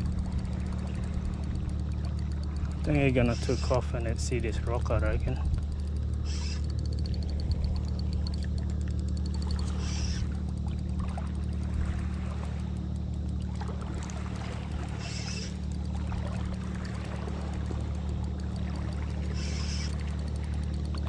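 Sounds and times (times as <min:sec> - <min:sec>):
steady low hum: 0:00.0 - 0:21.0
water lapping against boat hull: 0:00.0 - 0:21.0.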